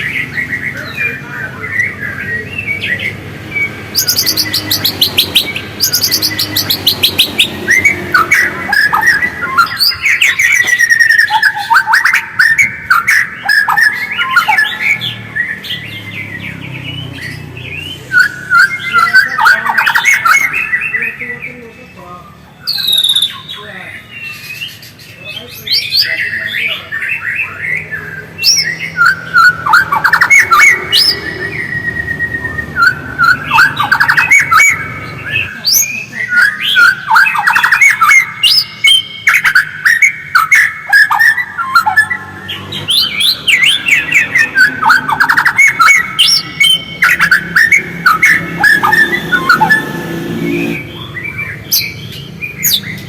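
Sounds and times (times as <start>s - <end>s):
bird singing chirps and trills: 0.0s - 53.0s.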